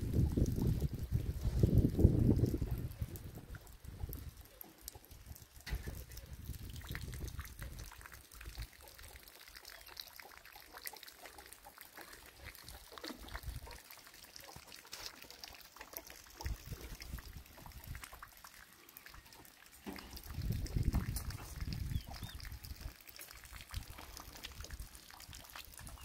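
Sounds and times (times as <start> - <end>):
rainwater dripping onto concrete: 0.0 - 26.0.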